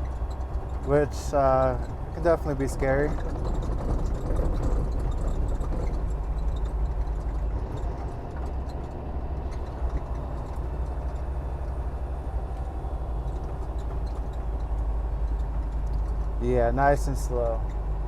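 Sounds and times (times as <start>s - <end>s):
faint rattles: 0.0s - 18.0s
truck diesel engine rumble: 0.0s - 18.0s.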